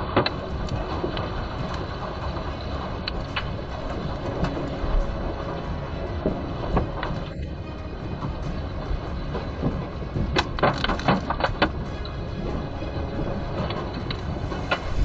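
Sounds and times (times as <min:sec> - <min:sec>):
low earthquake rumbling: 0:00.0 - 0:15.0
car rattling and knocking: 0:00.1 - 0:14.9.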